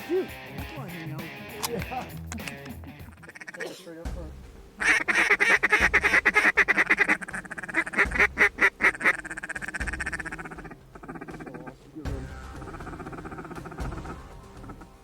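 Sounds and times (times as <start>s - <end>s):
duck quacking: 0.0s - 3.8s, 4.8s - 15.0s.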